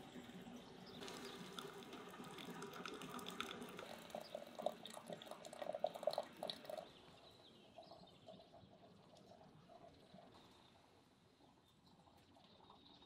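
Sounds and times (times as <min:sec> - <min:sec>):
water dripping: 0:00.0 - 0:10.6
hot water pouring into teapot: 0:00.0 - 0:10.9.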